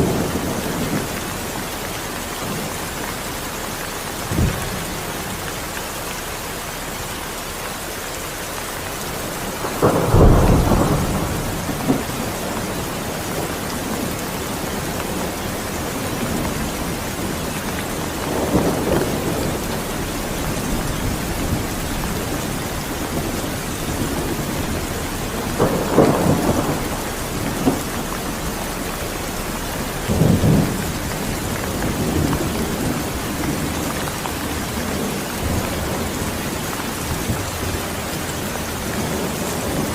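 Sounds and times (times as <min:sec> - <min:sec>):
thunder rumbles: 0:00.0 - 0:05.7, 0:08.7 - 0:39.9
heavy rain: 0:00.0 - 0:39.9.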